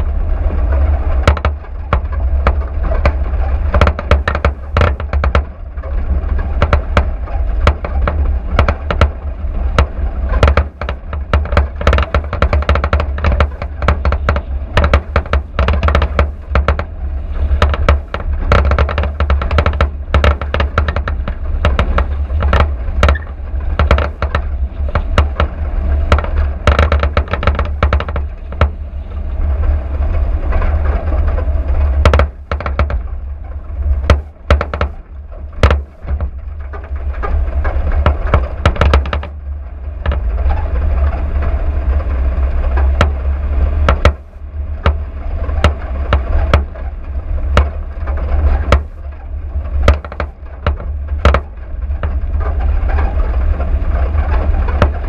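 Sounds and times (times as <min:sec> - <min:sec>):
car rumbling on dirt track: 0:00.0 - 0:55.0
knocks and rattles over bumps: 0:00.0 - 0:55.0.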